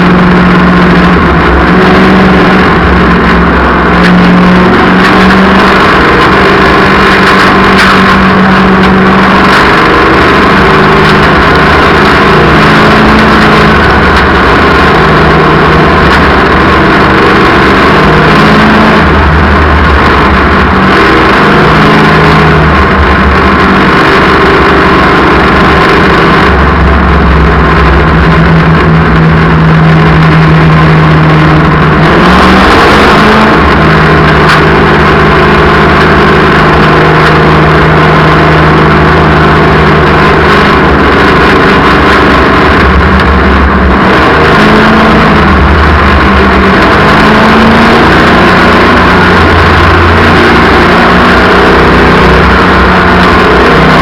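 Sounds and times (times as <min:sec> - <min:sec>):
race car engines at speed: 0:00.0 - 0:54.0.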